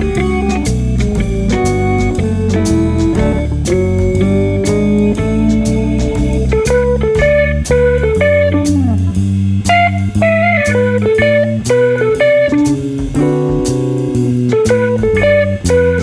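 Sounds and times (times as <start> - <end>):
bass: 0.0 - 16.0
guitar playing single notes: 0.0 - 16.0
steady drum beat: 0.0 - 16.0.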